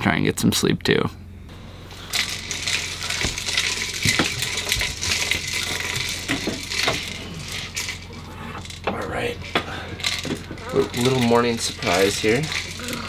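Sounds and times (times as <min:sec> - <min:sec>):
low steady hum: 0:00.0 - 0:13.0
metallic reel rattling: 0:01.5 - 0:13.0.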